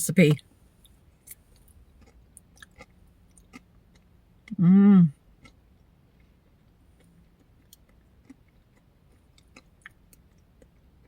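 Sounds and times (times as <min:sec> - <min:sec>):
faint chewing: 0:00.7 - 0:04.6, 0:05.4 - 0:11.0.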